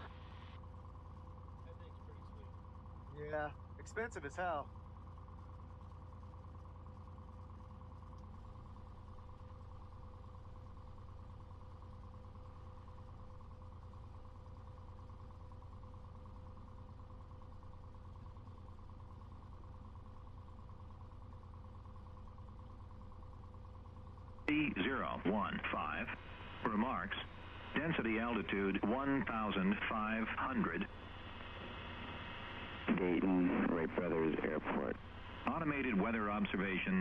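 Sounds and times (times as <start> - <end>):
aircraft engine and propeller drone: 0.0 - 37.0.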